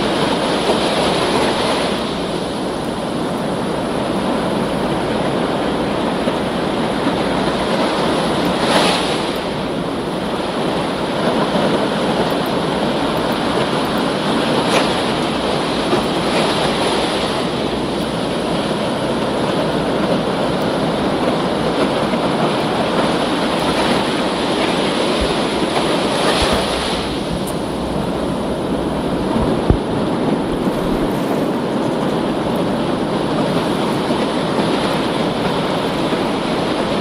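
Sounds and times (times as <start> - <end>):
ocean surf washing over rocks: 0.0 - 37.0.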